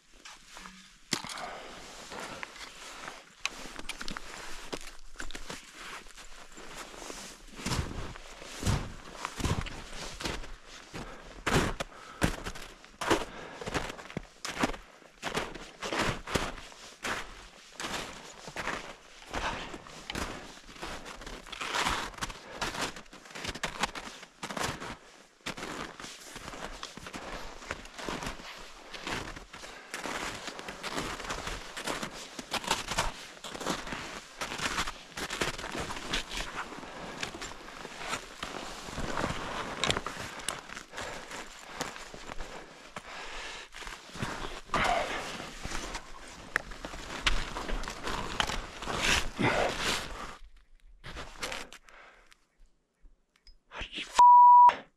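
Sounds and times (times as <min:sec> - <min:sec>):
footsteps crunching in snow: 0:01.4 - 0:50.3.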